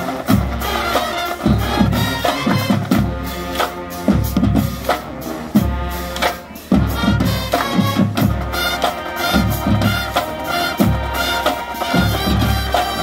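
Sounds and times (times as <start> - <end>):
marching band brass and drums: 0.0 - 13.0.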